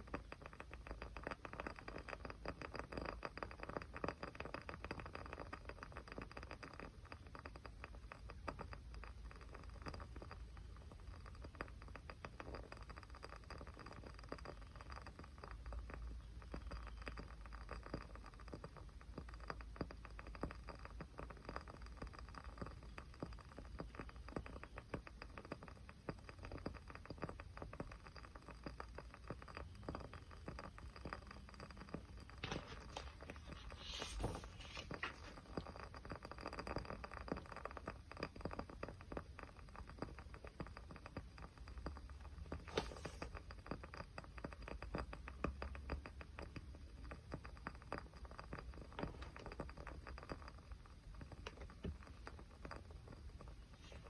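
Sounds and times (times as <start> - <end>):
small fire crackling: 0.0 - 54.0.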